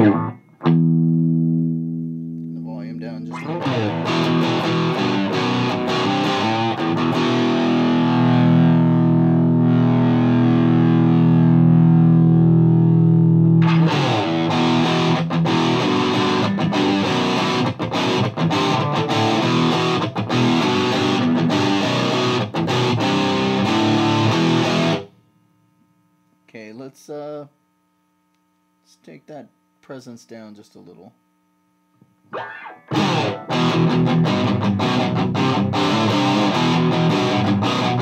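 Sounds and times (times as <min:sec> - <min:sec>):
distorted electric guitar riff: 0:00.0 - 0:25.2, 0:32.3 - 0:38.0.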